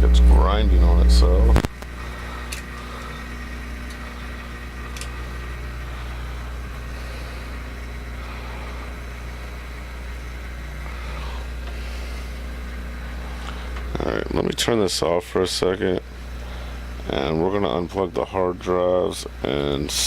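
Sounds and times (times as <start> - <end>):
computer fans humming: 0.0 - 20.0
hard drive grinding: 0.0 - 20.0.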